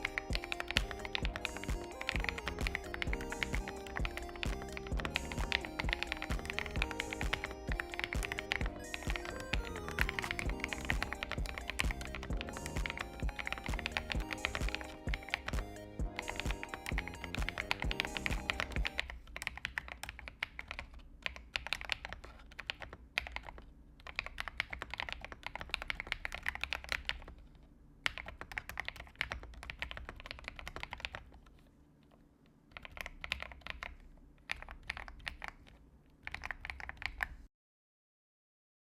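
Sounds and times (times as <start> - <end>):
mechanical keyboard typing: 0.0 - 37.4.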